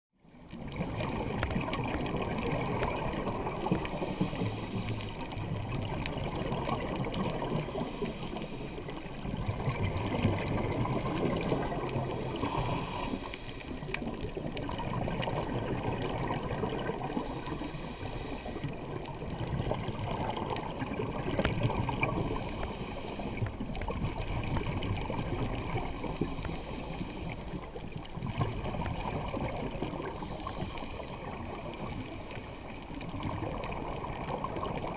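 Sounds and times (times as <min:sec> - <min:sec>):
muffled underwater rushing and gurgling: 0:00.2 - 0:34.9.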